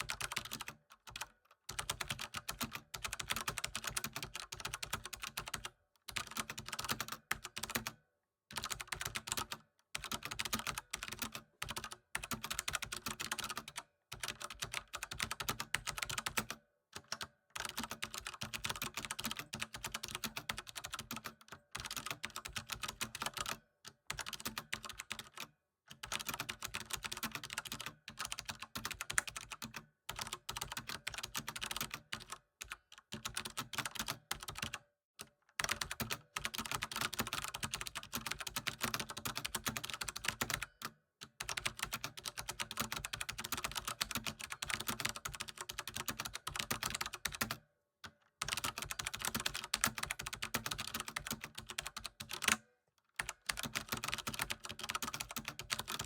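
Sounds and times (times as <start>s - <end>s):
keyboard typing: 0.0s - 34.8s, 35.6s - 40.8s, 41.4s - 47.6s, 48.4s - 52.6s, 53.2s - 56.0s.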